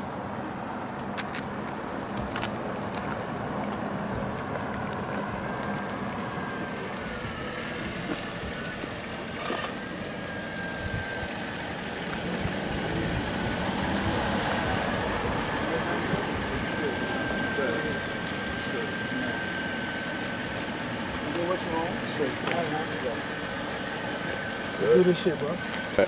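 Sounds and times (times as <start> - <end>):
rushing traffic: 0.0 - 26.0
faint thin whine: 4.4 - 26.0.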